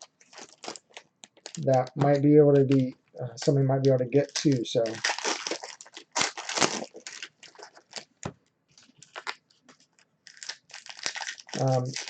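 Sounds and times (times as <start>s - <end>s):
packaging crinkling: 0.0s - 2.8s, 4.2s - 12.0s.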